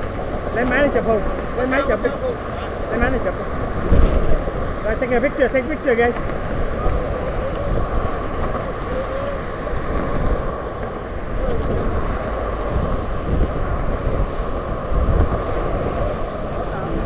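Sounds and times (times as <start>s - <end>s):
road traffic passing: 0.0s - 17.0s
wind buffeting microphone: 0.0s - 17.0s.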